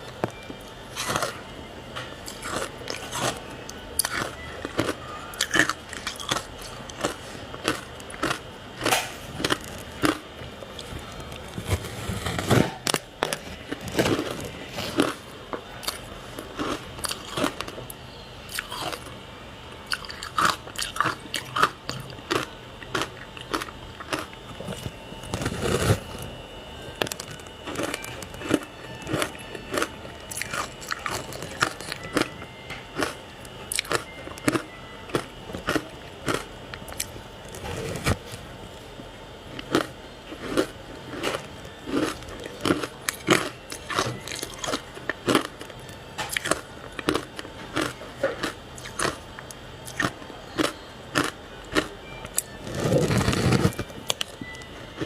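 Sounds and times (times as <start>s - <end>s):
ice crunching while chewed: 0.2s - 1.4s, 2.2s - 17.9s, 18.5s - 19.1s, 19.8s - 26.3s, 26.9s - 38.4s, 39.5s - 55.0s.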